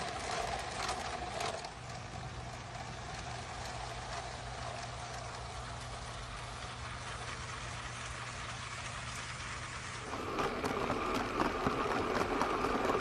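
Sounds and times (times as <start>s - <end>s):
low hum with hiss: 0.0s - 13.0s
toy train wheels clicking over track: 0.0s - 13.0s.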